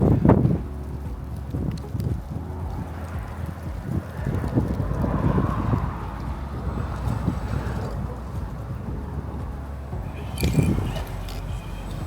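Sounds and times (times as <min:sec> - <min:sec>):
electric motor and gears whining: 0:00.0 - 0:12.0
tires scraping and knocking on rock: 0:00.0 - 0:12.0
wind rumble on microphone: 0:00.0 - 0:12.0.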